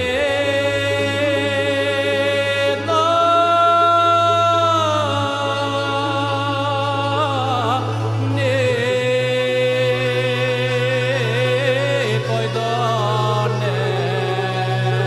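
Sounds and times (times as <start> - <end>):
low drone: 0.0 - 15.0
ornamented folk singing: 0.0 - 15.0.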